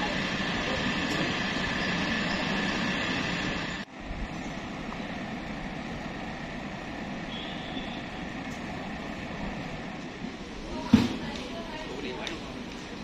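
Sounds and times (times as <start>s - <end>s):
jet engine hum and whine: 0.0s - 13.0s.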